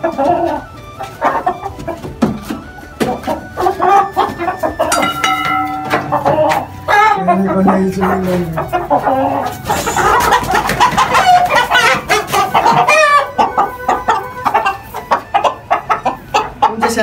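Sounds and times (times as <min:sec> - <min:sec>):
chickens squawking and clucking: 0:00.0 - 0:17.0.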